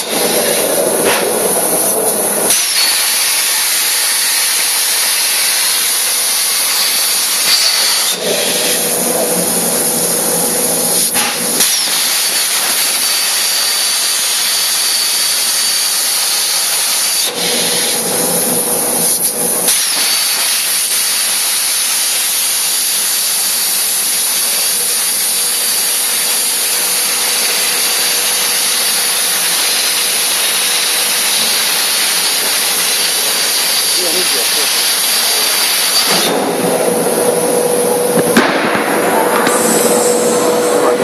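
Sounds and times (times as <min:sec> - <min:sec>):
machine hiss with high whine: 0:00.0 - 0:41.0.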